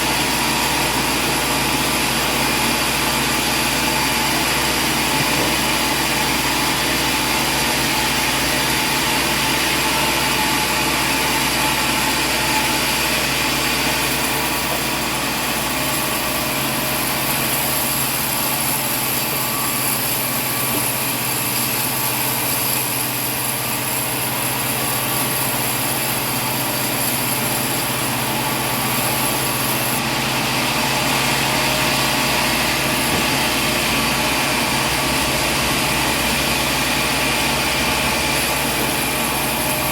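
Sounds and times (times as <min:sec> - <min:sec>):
high machine whine: 0:00.0 - 0:39.9
sawmill machinery running: 0:00.0 - 0:39.9.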